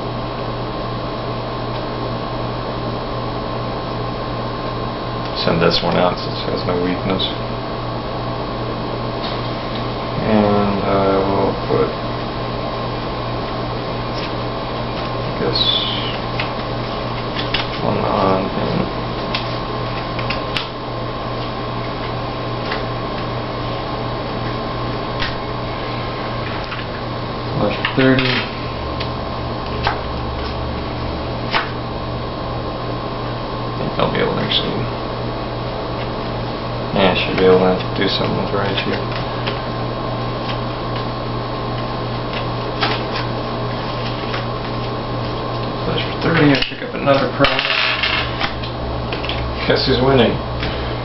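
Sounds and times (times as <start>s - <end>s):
electrical hum and hiss: 0.0s - 51.0s.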